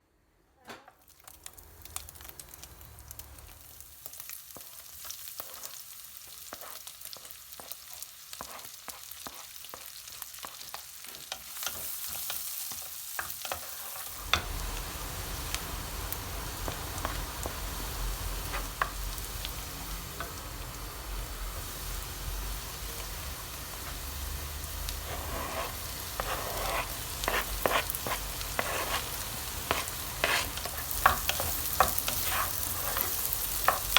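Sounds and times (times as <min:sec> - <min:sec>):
food sizzling in a pan: 0:01.0 - 0:33.9.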